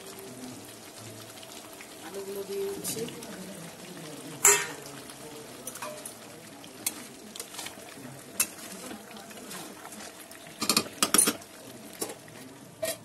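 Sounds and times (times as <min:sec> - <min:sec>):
curry sizzling: 0:00.0 - 0:13.0.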